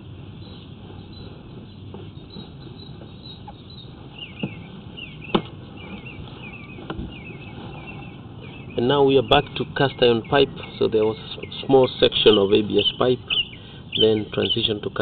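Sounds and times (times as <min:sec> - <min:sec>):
low background hum: 0:00.0 - 0:15.0
small birds chirping: 0:00.0 - 0:15.0.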